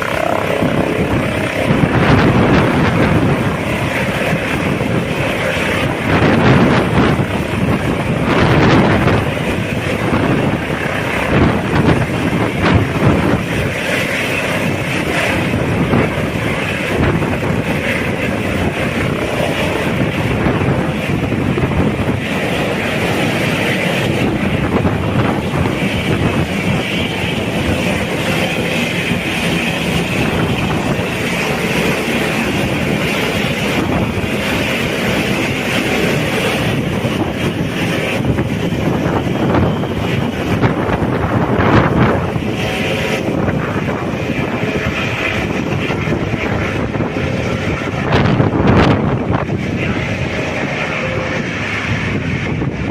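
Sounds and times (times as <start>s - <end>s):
helicopter rotor and turbine: 0.0s - 52.9s
wind buffeting microphone: 0.0s - 52.9s.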